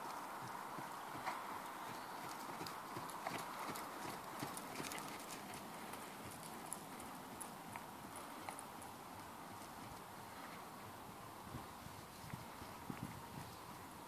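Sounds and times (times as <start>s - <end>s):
horse hooves trotting on sand: 0.0s - 14.0s.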